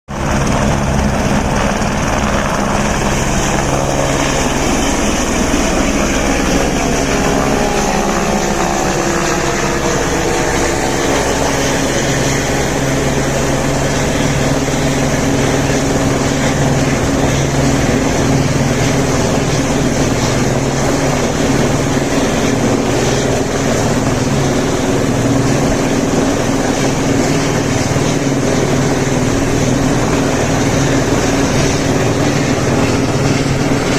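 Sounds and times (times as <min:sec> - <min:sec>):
helicopter engine and rotor drone: 0:00.1 - 0:33.9.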